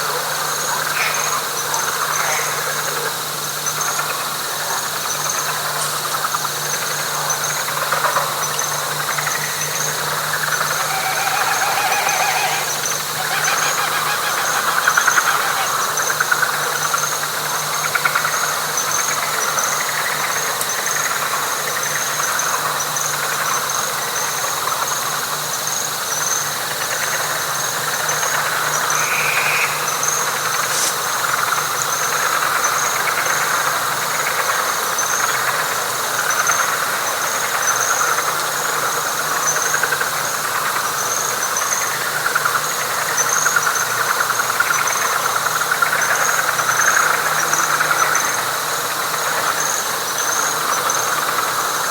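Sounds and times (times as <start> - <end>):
frogs calling: 0.0 - 25.0, 25.7 - 51.9.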